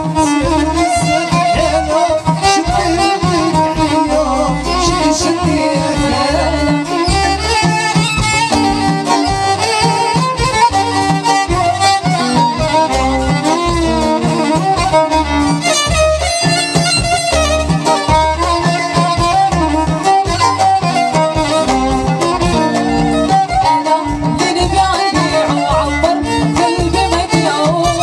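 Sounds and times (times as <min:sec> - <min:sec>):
bass and percussion beat: 0:00.0 - 0:28.0
guitar: 0:00.0 - 0:28.0
violin melody: 0:00.0 - 0:28.0.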